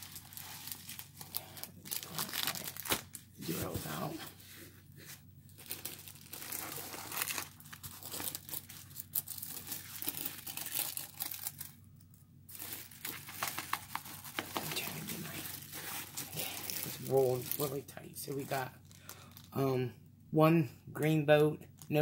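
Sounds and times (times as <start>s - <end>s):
plastic and paper packaging crinkling: 0.0s - 19.6s.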